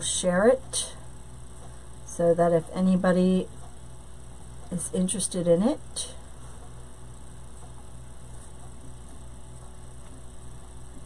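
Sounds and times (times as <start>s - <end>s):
pulsing mains hum: 0.0s - 11.0s.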